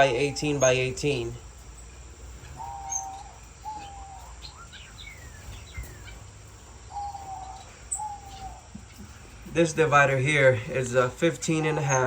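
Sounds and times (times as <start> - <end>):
finches nasal calls: 0.0 - 12.0.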